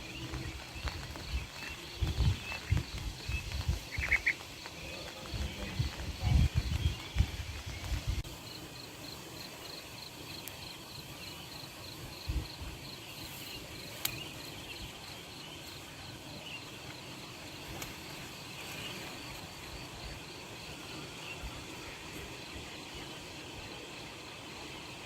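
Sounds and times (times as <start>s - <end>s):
background hiss: 0.0s - 25.0s
insect chirping: 0.0s - 25.0s.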